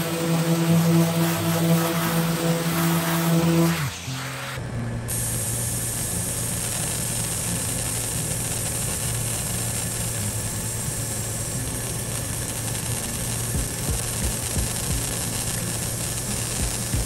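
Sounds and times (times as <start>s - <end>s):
even hiss: 0.0s - 17.0s
laser engraver humming: 0.0s - 17.0s.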